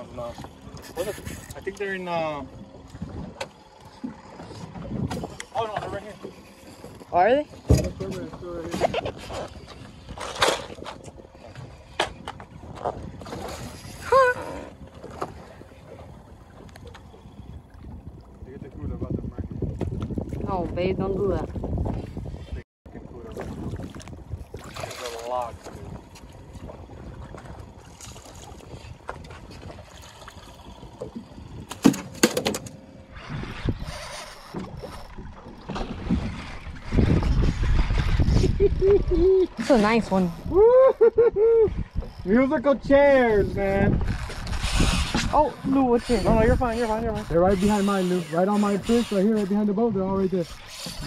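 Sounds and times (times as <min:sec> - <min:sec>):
water around a boat: 0:00.0 - 0:51.0
wind: 0:00.0 - 0:51.0.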